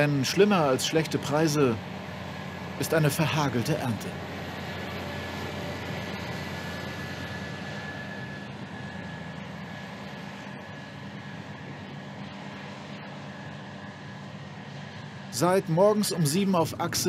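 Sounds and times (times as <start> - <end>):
faint high whine: 0.0 - 17.0
farm machinery engine drone: 0.0 - 17.0.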